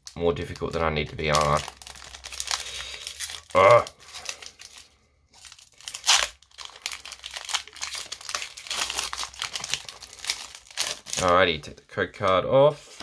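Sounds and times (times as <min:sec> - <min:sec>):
foil wrapper tearing: 0:00.0 - 0:11.4
foil wrapper crinkling: 0:00.0 - 0:11.6.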